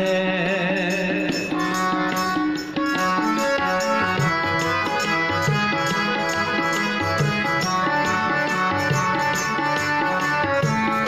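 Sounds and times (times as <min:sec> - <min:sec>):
tabla drumming: 0:00.0 - 0:11.0.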